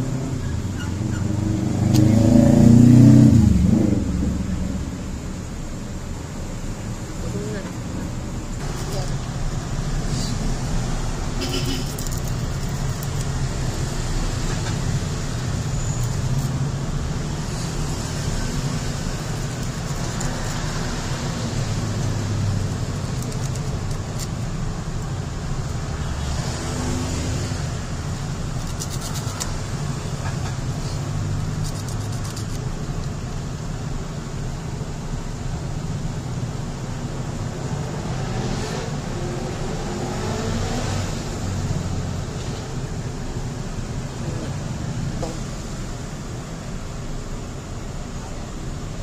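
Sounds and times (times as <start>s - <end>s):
low rumble of vehicle traffic: 0.0s - 49.0s.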